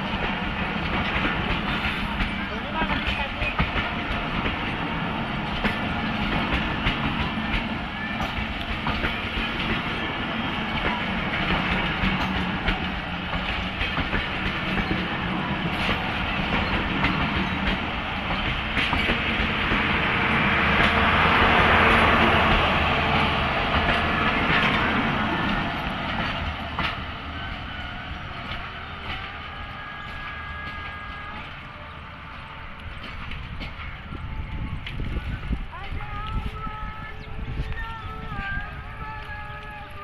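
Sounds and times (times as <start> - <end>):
train wheels clicking over rails: 0.0 - 36.9
train rumble: 0.0 - 40.0.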